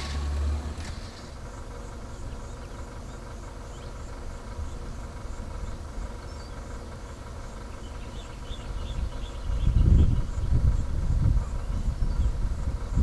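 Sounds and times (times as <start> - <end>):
vehicle engine idling: 0.0 - 13.0
insects chirping faintly: 0.5 - 13.0.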